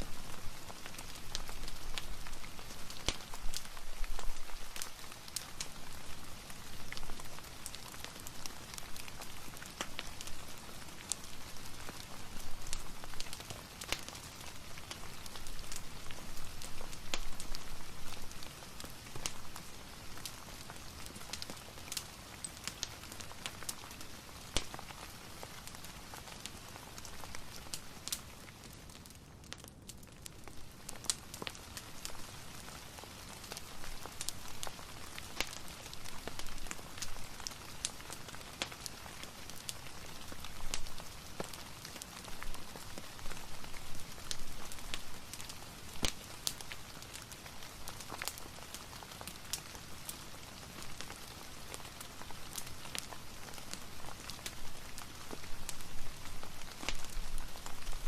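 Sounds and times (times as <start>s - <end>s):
fireplace crackling: 0.0s - 58.0s
soft rain: 0.0s - 58.0s.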